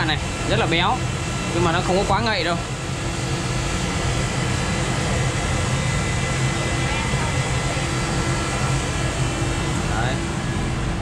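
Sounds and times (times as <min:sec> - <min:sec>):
constant low hum: 0:00.0 - 0:11.0
steady mechanical roar: 0:00.0 - 0:11.0.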